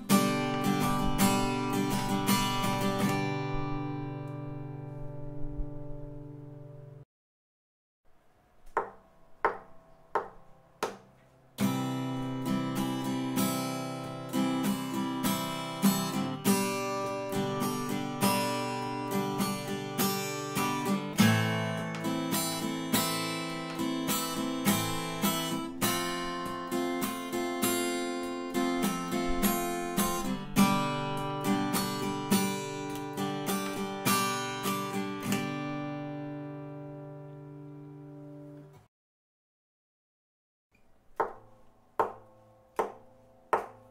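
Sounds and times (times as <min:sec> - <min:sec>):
acoustic guitar picked notes: 0:00.0 - 0:07.0, 0:08.6 - 0:38.9
acoustic guitar strummed chords: 0:00.0 - 0:07.0, 0:08.8 - 0:38.8.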